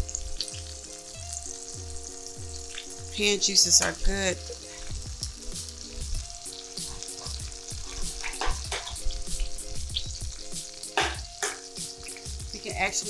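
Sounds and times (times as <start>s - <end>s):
greens sizzling in a pan: 0.0s - 13.0s
soft background music: 0.0s - 13.0s.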